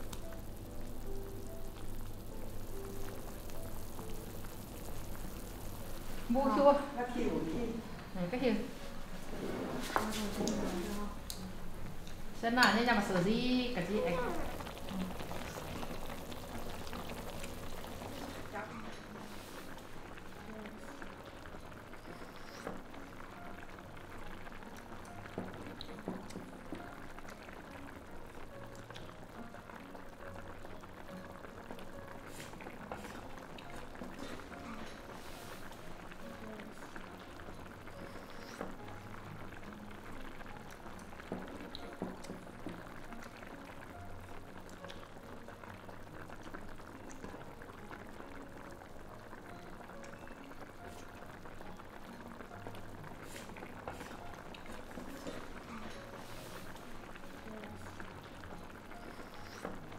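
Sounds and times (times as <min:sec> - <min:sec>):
broth boiling with bubbling pops: 0:00.0 - 0:59.9.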